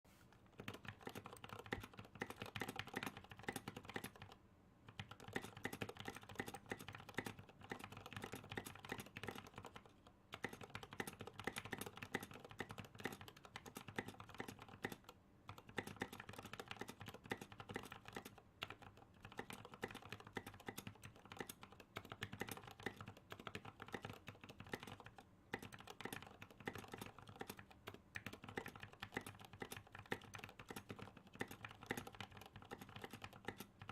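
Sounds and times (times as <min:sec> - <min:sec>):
fast typing on mechanical keyboard: 0:00.5 - 0:33.9.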